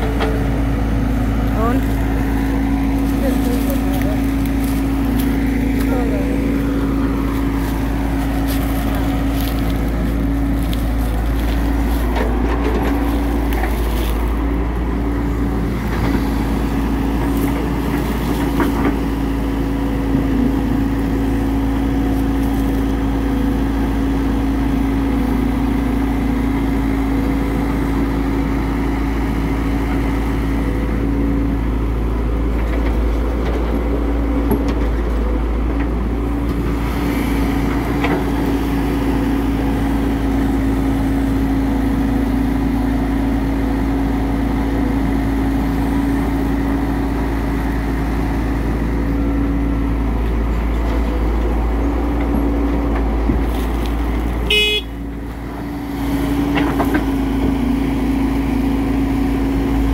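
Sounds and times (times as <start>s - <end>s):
engine whine: 0.0s - 59.9s
excavator diesel engine rumbling: 0.0s - 59.9s.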